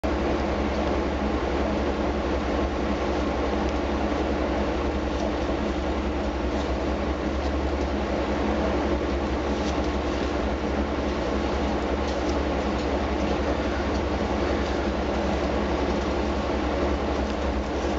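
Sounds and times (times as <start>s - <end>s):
vacuum truck equipment droning: 0.0s - 17.9s.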